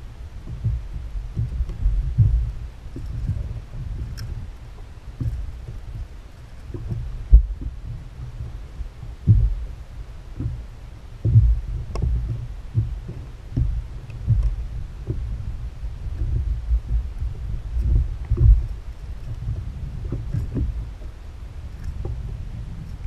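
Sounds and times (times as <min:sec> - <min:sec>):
waves thumping against kayak hull: 0:00.0 - 0:23.0.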